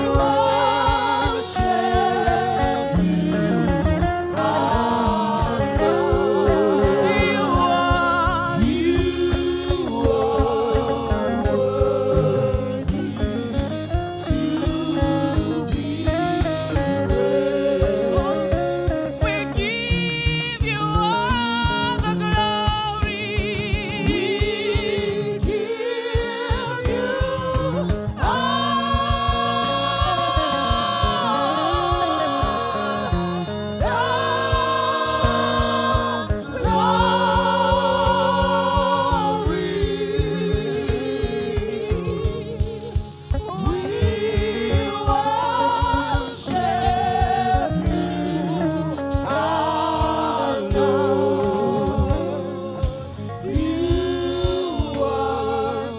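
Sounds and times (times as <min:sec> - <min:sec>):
band with steady drum beat: 0:00.0 - 0:55.9
voices singing with vibrato: 0:00.0 - 0:55.9.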